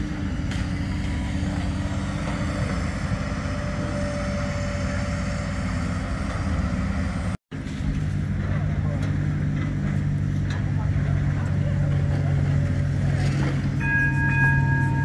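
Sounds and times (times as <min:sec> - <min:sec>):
excavator engines droning: 0:00.0 - 0:15.0.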